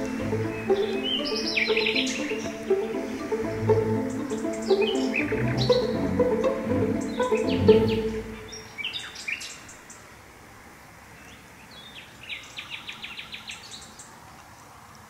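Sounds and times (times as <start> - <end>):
songbirds singing: 0.0 - 10.1, 11.1 - 14.2
faint background noise: 0.0 - 15.0.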